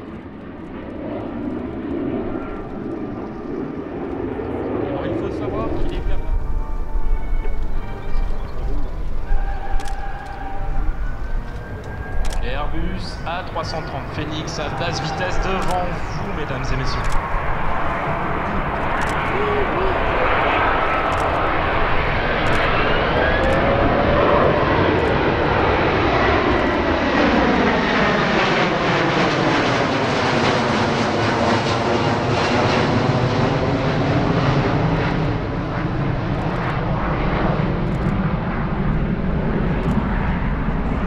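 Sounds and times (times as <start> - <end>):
jet aircraft passing overhead: 0.0 - 41.0.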